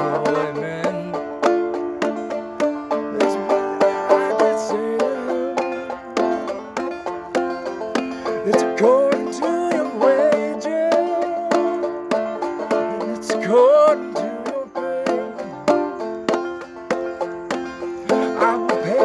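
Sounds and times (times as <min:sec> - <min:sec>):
banjo playing old-time tune: 0:00.0 - 0:19.0.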